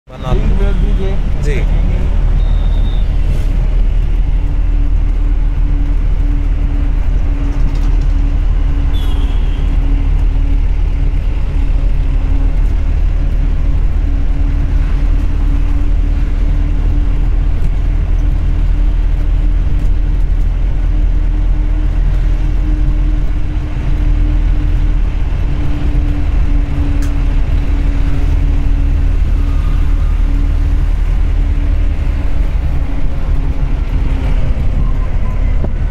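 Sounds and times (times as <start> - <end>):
car engine drone: 0.0 - 35.9
road noise: 0.0 - 35.9
wind noise: 0.2 - 35.9.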